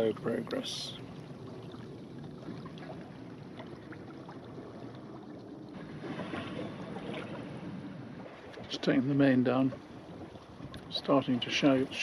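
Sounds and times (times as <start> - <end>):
water washing along a hull: 0.0 - 12.0.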